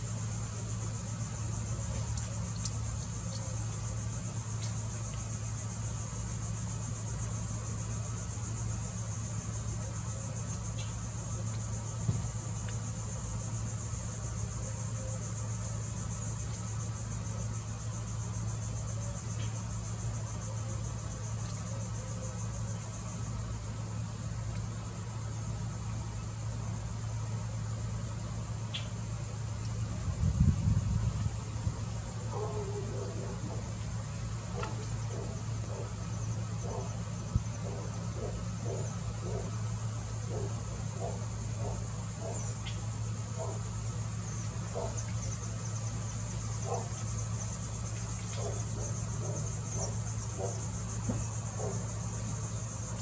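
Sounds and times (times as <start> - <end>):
insect chorus trilling: 0.0 - 53.0.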